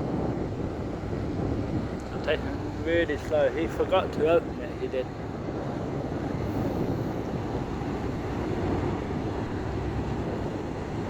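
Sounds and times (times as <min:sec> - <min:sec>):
ferry engines rumbling: 0:00.0 - 0:11.0.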